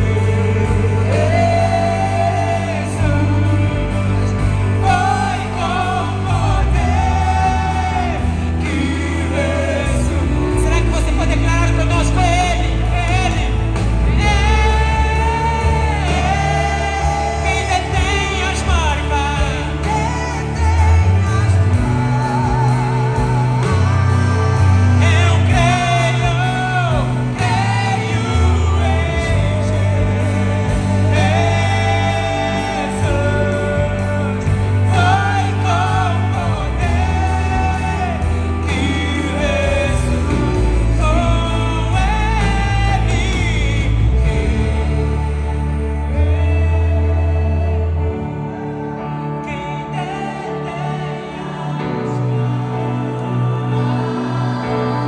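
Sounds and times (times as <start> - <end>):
bass guitar: 0.0 - 55.0
drums: 0.0 - 55.0
electric guitar: 0.0 - 55.0
keyboard: 0.0 - 55.0
people singing: 0.0 - 55.0.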